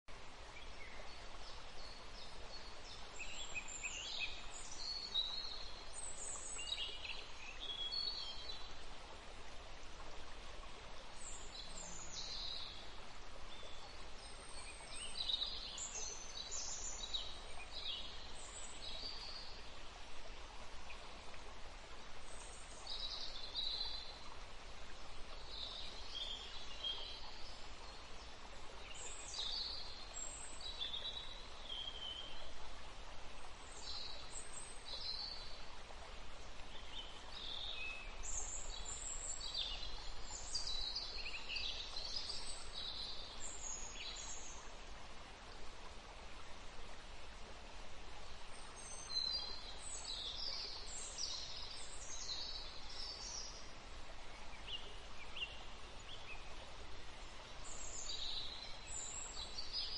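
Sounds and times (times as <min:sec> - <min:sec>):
songbirds chirping: 0:00.0 - 0:59.9
soft steady background hiss: 0:00.1 - 0:59.9.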